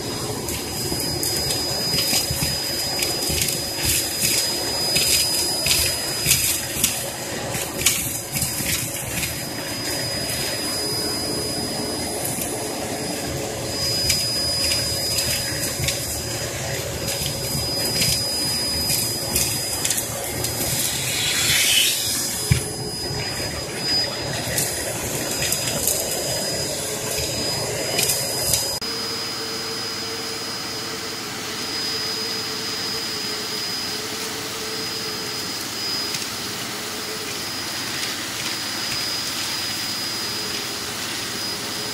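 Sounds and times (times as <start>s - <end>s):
vacuum cleaner whining: 0.0s - 41.9s.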